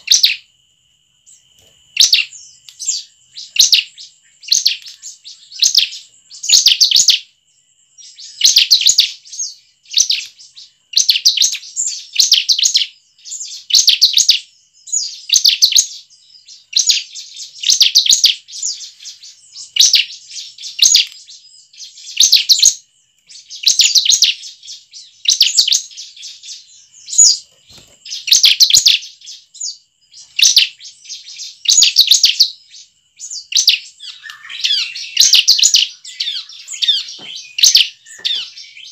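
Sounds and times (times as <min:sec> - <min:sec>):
bird chirping rapidly: 0:00.0 - 0:00.5, 0:01.3 - 0:07.3, 0:08.0 - 0:38.9.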